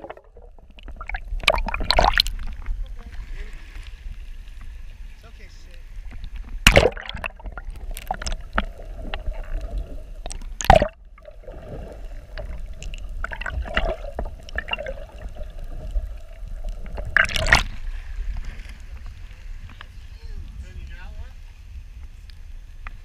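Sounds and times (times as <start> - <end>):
water splashes: 0.0 - 21.7
underwater gurgling and sloshing: 0.0 - 23.0.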